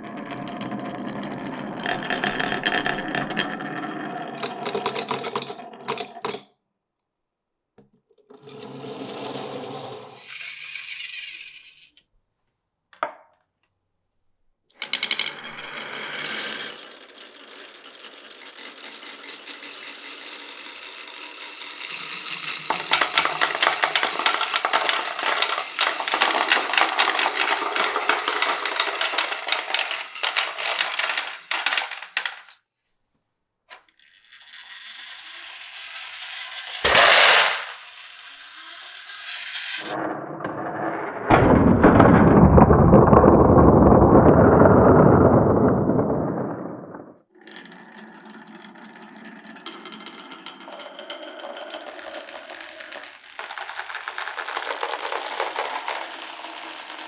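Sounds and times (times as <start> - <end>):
marbles rolling on a wooden run: 0.0 - 6.5, 8.4 - 12.0, 14.8 - 32.6, 33.7 - 57.0.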